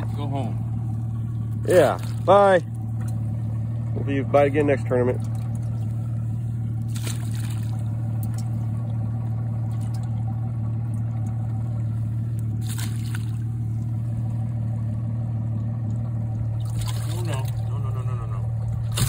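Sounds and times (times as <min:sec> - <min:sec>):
pump humming: 0:00.0 - 0:19.0
water splashes: 0:00.0 - 0:19.0
water trickling: 0:00.0 - 0:19.0.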